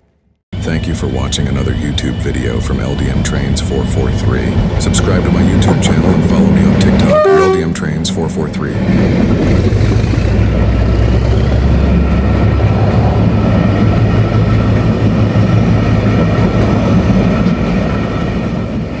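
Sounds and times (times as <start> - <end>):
steady tones: 0.6 - 18.8
train rumbling on rails: 0.6 - 19.0.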